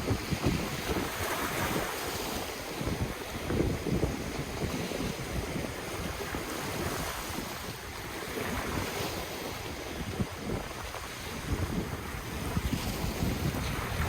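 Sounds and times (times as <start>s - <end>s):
ocean waves on shore: 0.0s - 14.0s
wind rumbling on microphone: 0.0s - 14.0s.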